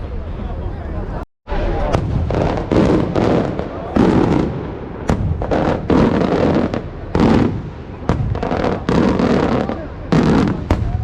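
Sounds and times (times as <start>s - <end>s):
fireworks bursting with bangs: 1.5s - 11.0s.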